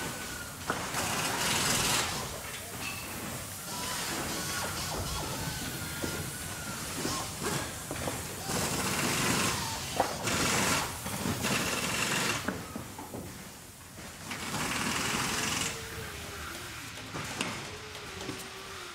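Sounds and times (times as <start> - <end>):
bursts of hissing: 0.0 - 18.9
factory machinery running: 0.0 - 18.9.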